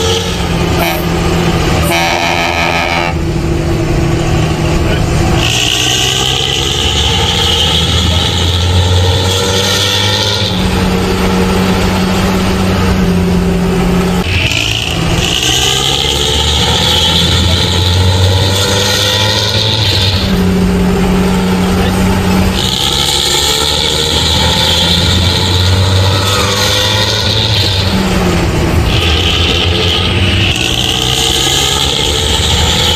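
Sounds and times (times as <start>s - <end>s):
engine exhaust growling: 0.0s - 32.9s.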